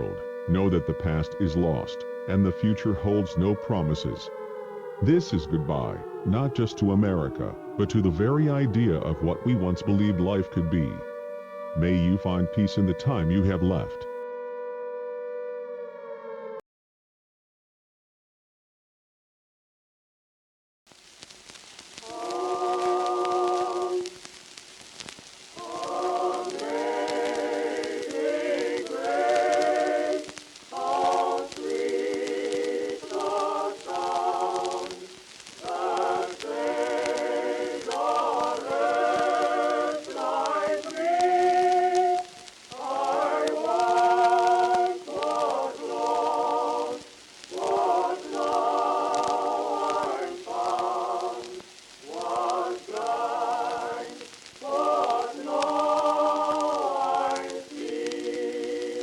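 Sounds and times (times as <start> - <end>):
choir singing: 0.0 - 16.6, 22.0 - 24.3, 25.5 - 59.0.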